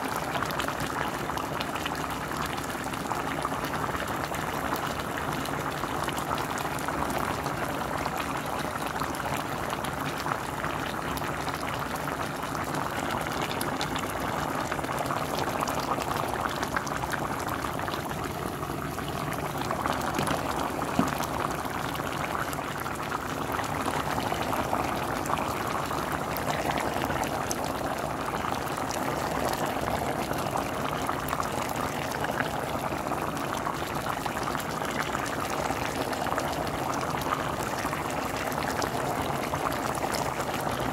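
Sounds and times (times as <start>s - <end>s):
pot boiling with bubbling pops: 0.0s - 40.9s.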